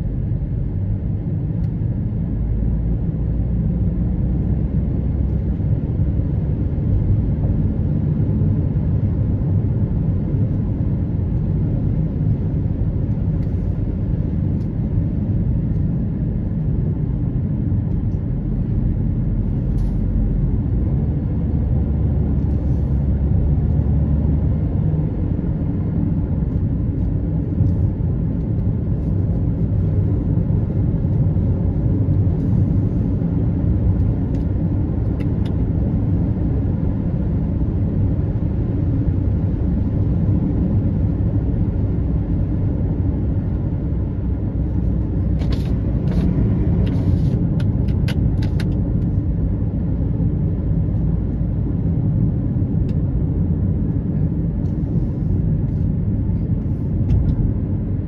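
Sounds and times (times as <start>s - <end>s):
car interior road rumble: 0.0s - 58.0s.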